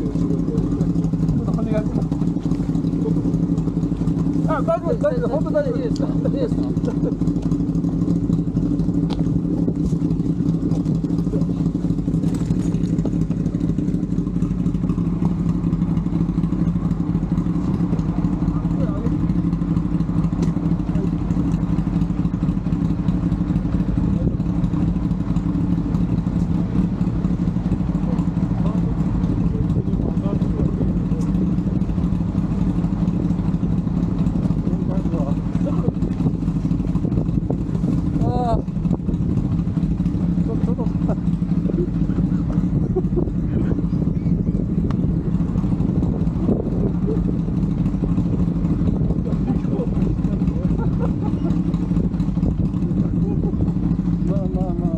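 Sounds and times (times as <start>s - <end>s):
motorcycle engine droning: 0.0s - 54.9s.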